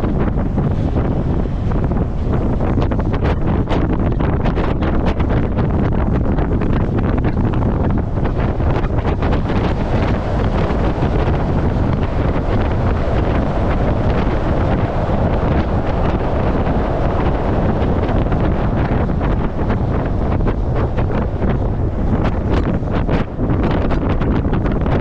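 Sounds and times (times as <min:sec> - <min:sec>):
truck driving rumble: 0:00.0 - 0:25.0
wind buffeting microphone: 0:00.0 - 0:25.0.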